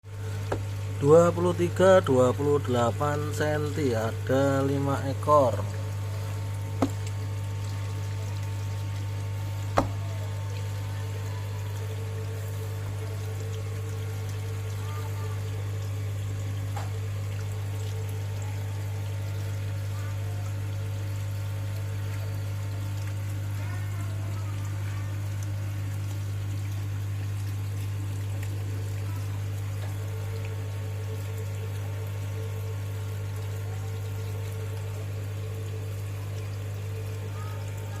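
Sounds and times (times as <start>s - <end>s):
water pouring into a pond: 0.0s - 38.0s.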